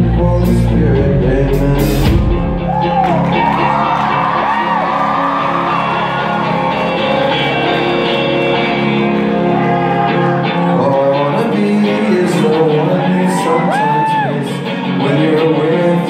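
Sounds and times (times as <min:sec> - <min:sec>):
electric guitars with sliding notes: 0:00.0 - 0:16.0
live rock band playing: 0:00.0 - 0:16.0.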